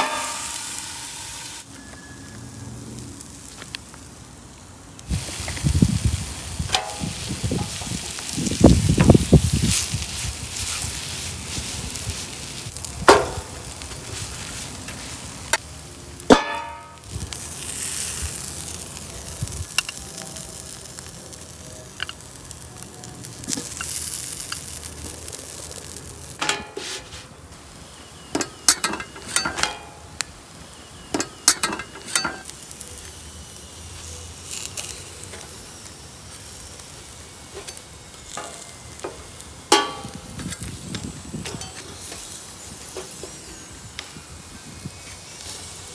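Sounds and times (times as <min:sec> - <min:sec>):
sizzling on a griddle: 0:00.0 - 0:45.9.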